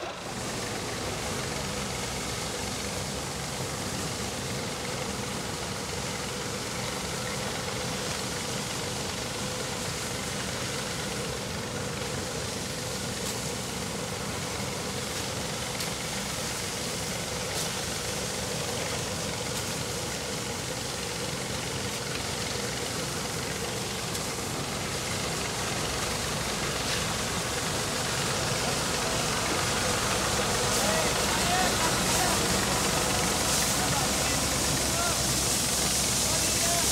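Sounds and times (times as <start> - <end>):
corn thresher running: 0.0 - 36.9.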